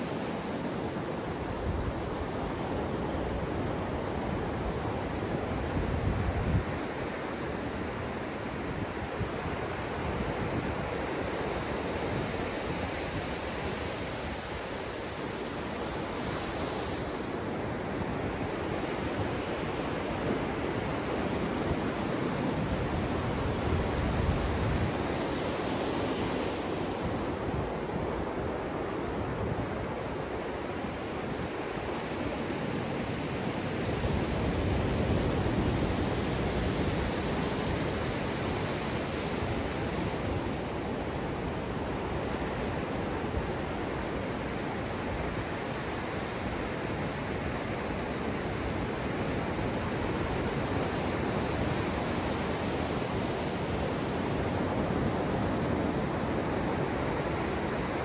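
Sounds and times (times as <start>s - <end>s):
ocean surf washing on sand: 0.0s - 58.0s.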